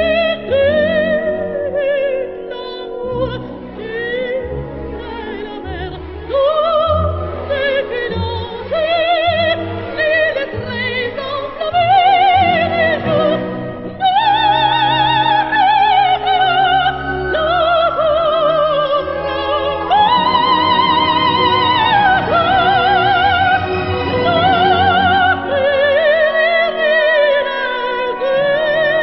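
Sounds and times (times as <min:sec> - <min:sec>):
operatic soprano singing: 0:00.0 - 0:29.0
orchestra: 0:00.0 - 0:29.0.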